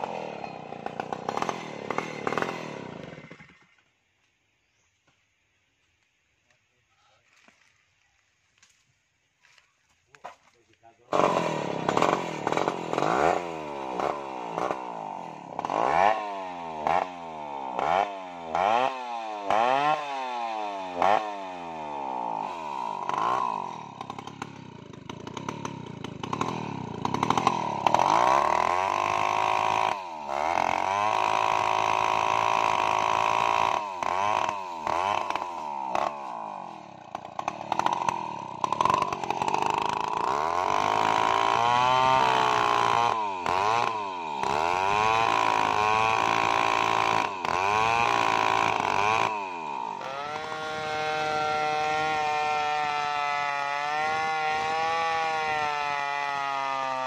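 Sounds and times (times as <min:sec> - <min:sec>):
chainsaw cutting log: 0:00.0 - 0:03.9, 0:09.5 - 0:57.0
chainsaw revving: 0:00.0 - 0:03.9, 0:11.0 - 0:57.0.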